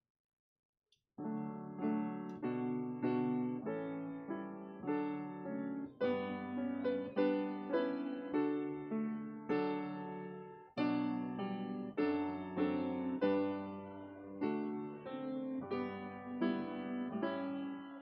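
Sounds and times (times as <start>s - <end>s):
slow piano music: 1.2s - 18.0s.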